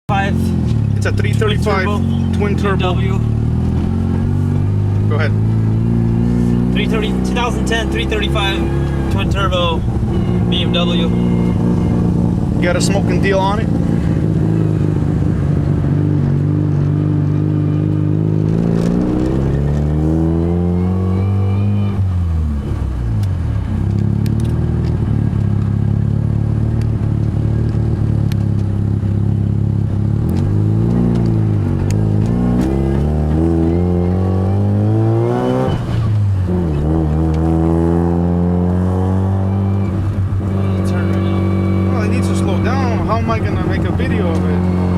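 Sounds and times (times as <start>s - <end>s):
car engine accelerating: 0.1s - 44.9s.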